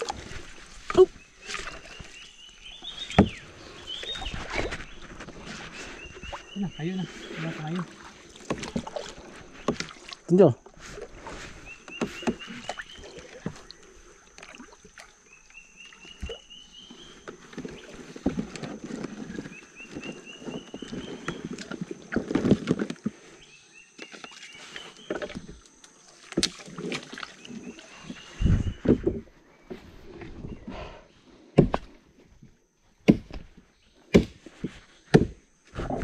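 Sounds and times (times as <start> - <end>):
water swishing and sloshing: 0.0 - 30.6.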